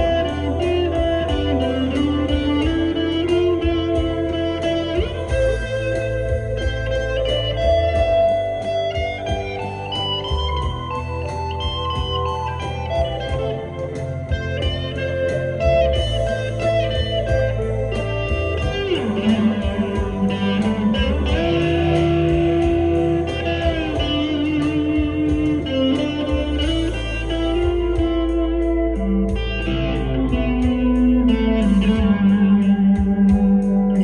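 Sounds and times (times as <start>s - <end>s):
electric guitar bending notes: 0.0s - 34.0s.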